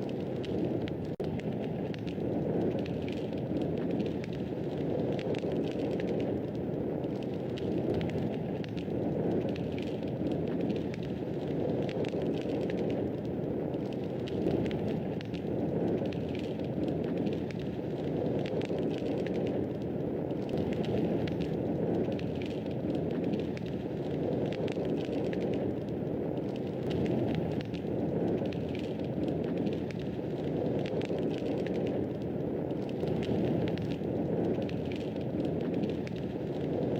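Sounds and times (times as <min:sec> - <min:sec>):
fire crackling in a fireplace: 0:00.0 - 0:36.9.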